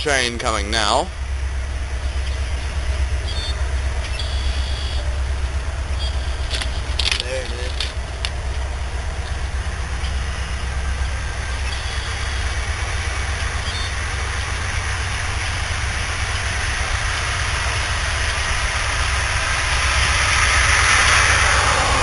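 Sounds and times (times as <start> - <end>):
diesel locomotive rumble: 0.0 - 22.0
rail noise: 0.0 - 22.0.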